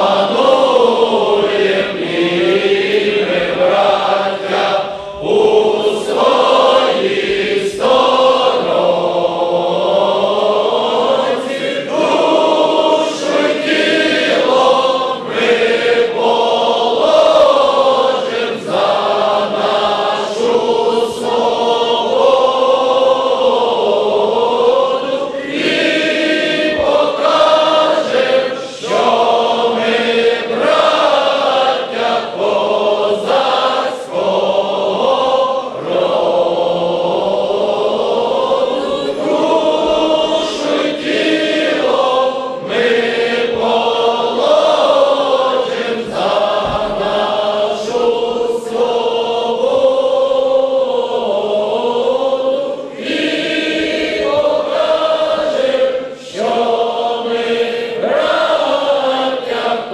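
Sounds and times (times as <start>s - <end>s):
crowd singing in unison: 0.0s - 59.9s.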